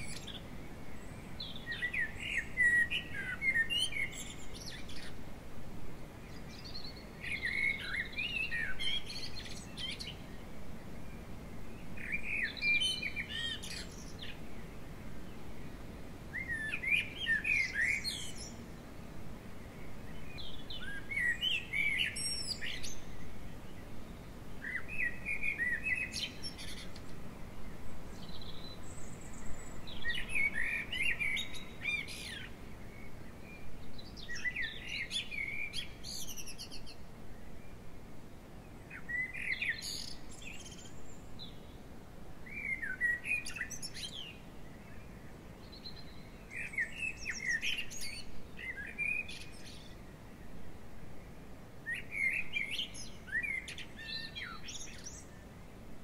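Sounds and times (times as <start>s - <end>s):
faint outdoor background noise: 0.0s - 56.0s
songbird singing: 0.0s - 56.0s.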